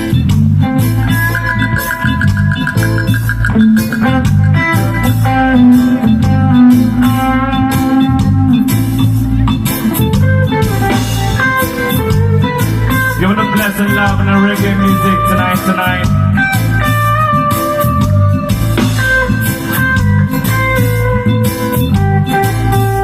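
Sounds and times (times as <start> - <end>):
bass line: 0.0 - 23.0
drums: 0.0 - 23.0
guitar: 0.0 - 23.0
keyboard notes: 0.0 - 23.0.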